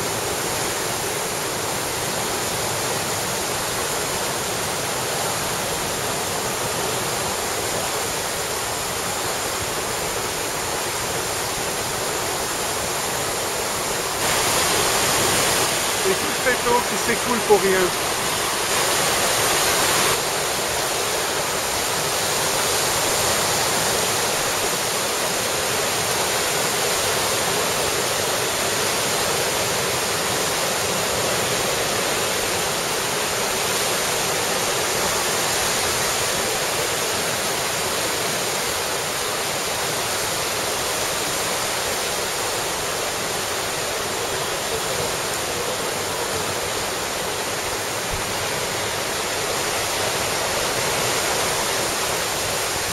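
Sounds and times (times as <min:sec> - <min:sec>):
rushing tidal current: 0:00.0 - 0:52.9.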